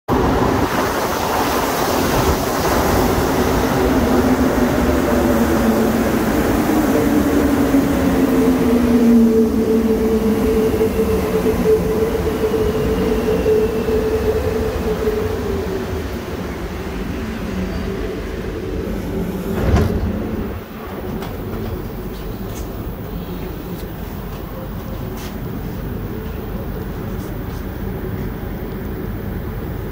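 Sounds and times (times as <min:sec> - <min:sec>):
train running gear rumble: 0:00.1 - 0:29.9.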